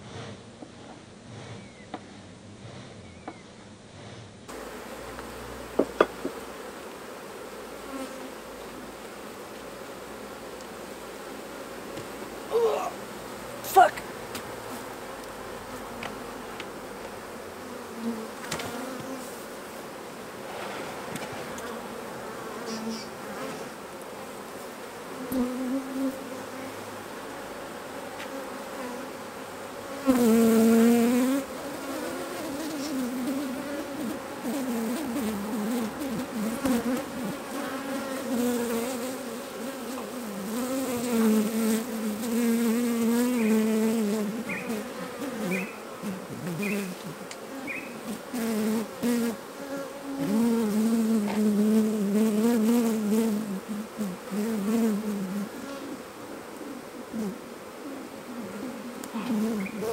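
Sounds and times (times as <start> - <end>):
bee flying past humming: 2.6 - 59.9
honey bees buzzing: 4.5 - 59.9.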